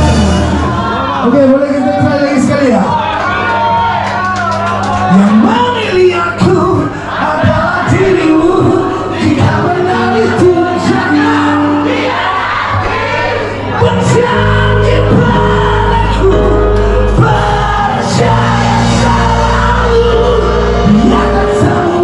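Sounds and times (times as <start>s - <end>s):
live band music with singing: 0.0s - 2.8s, 4.6s - 22.0s.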